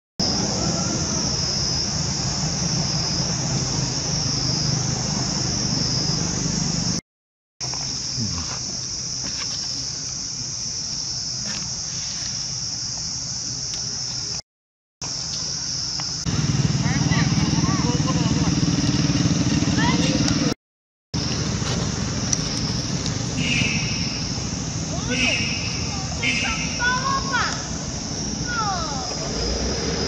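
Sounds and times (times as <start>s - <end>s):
high-pitched insect chorus: 0.2s - 7.0s, 7.6s - 14.4s, 15.0s - 18.4s, 21.2s - 30.0s.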